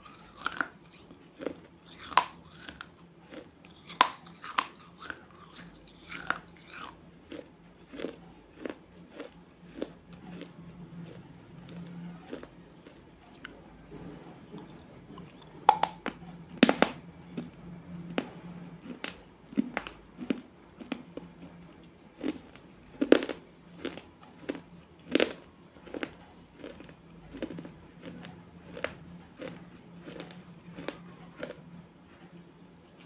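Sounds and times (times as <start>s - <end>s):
chewing brittle clay crunches: 0.0s - 33.0s.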